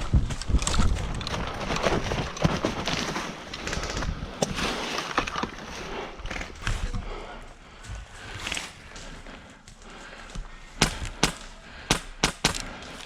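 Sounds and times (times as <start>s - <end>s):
twigs cracking: 0.0s - 13.0s.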